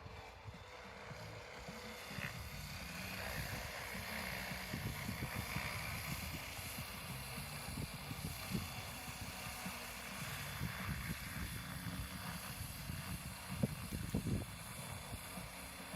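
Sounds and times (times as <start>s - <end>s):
electric helicopter whirring: 0.0s - 15.9s
wind on microphone: 0.0s - 15.9s.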